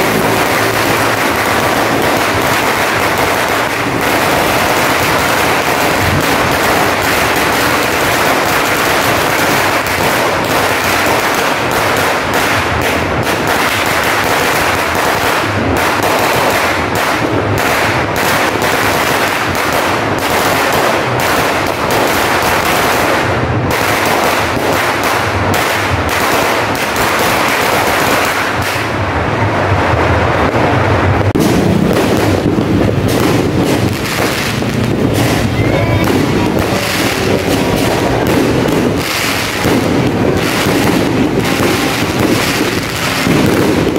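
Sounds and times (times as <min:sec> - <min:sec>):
aerial firework booms: 0:00.0 - 0:43.9
firecracker belt crackling: 0:00.0 - 0:43.9.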